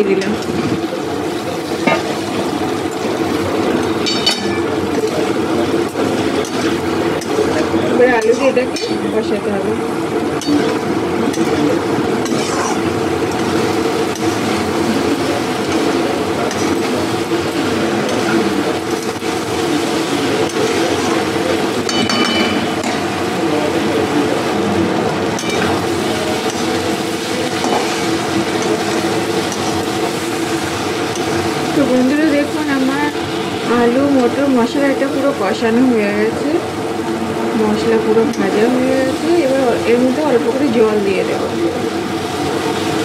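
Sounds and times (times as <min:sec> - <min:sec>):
masala frying: 0:00.0 - 0:43.0.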